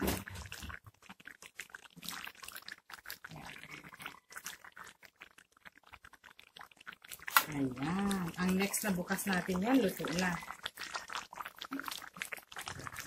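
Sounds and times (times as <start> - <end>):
spatula stirring stew in pan: 0.0 - 13.0.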